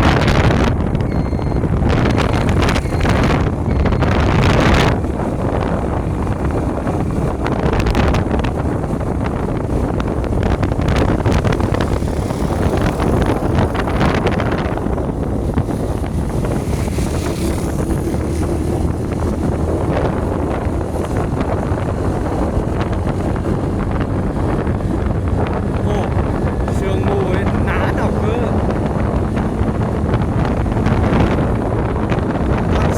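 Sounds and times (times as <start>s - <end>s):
vehicle engine rumble: 0.0s - 32.9s
wind buffeting microphone: 0.0s - 32.9s.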